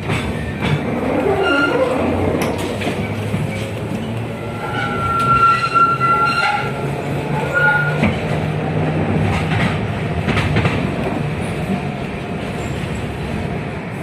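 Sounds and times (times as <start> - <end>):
tram rolling along track: 0.0 - 14.0.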